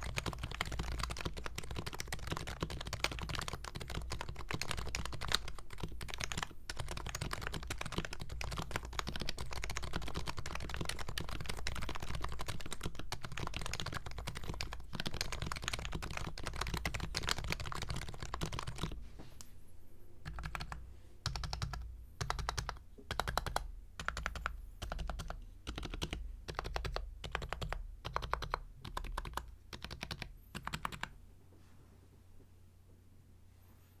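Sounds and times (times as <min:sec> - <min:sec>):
typing on keyboard: 0:00.0 - 0:19.0, 0:20.2 - 0:31.2.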